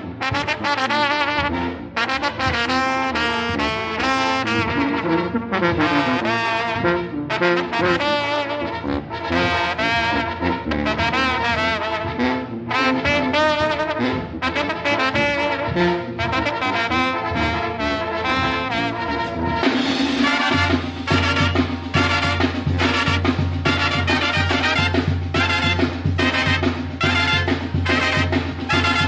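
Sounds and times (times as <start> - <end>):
brass band playing: 0.0 - 29.0
heavy bass and drum beat: 0.0 - 29.0.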